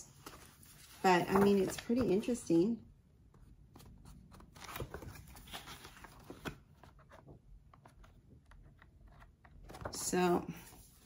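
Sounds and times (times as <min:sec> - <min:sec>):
book pages rustling: 0:00.1 - 0:02.4, 0:03.4 - 0:11.0.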